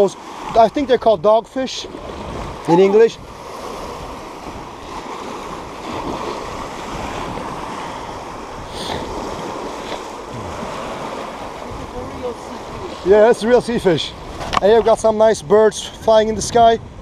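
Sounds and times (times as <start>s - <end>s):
waves washing over rocks: 0.0s - 16.1s
wind: 0.0s - 17.0s.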